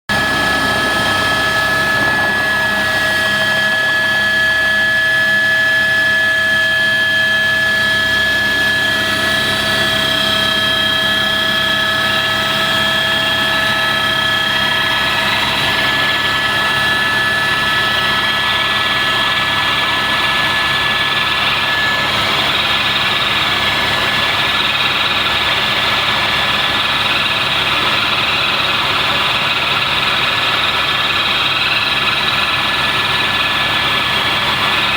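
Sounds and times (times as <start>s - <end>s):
helicopter drone: 0.1s - 34.9s
high whining tones: 0.1s - 34.9s.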